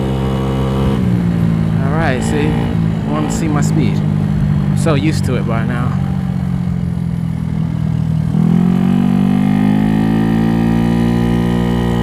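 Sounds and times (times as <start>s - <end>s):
scooter engine accelerating: 0.0s - 12.0s.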